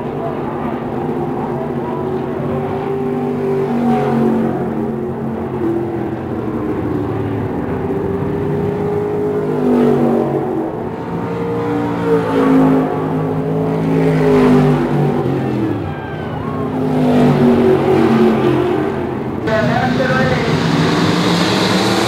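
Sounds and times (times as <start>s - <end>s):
stock car engines racing: 0.0s - 22.0s.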